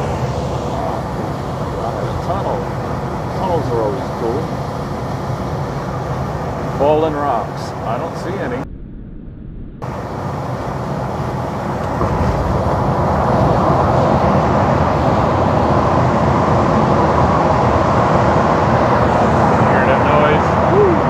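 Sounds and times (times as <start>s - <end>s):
truck engine and road noise: 0.0s - 8.7s, 9.8s - 21.0s.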